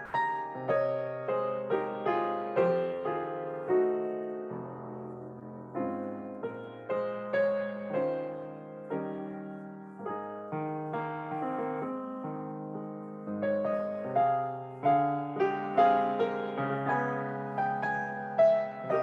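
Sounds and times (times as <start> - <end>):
slow gentle piano piece: 0.0 - 19.0.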